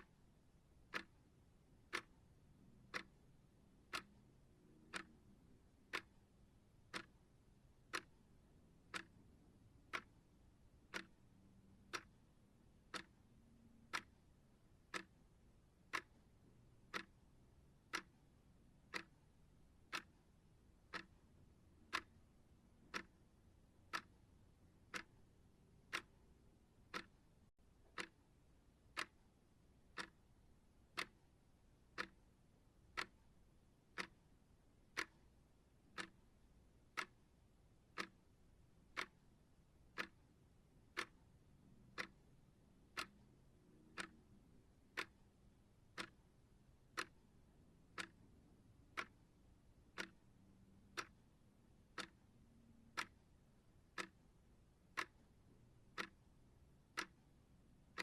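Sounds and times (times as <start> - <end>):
timer ticking: 0.0 - 58.0.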